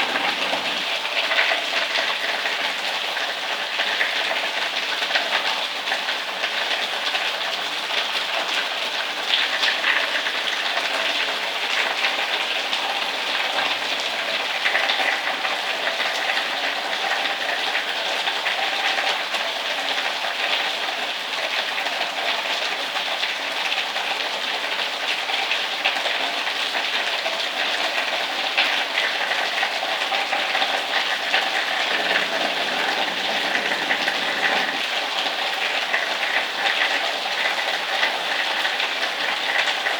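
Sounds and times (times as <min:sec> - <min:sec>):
heavy rain falling: 0:00.0 - 0:07.1, 0:07.7 - 0:39.9.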